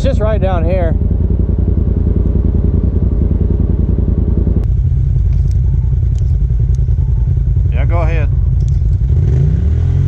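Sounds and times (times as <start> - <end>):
utility vehicle engine running: 0.0 - 10.0.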